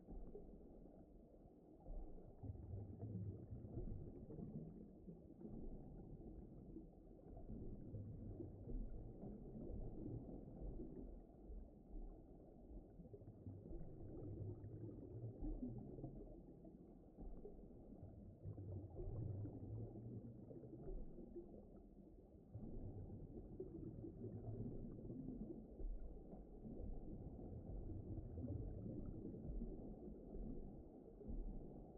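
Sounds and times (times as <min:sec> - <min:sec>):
muffled underwater water wash: 0:00.0 - 0:31.9.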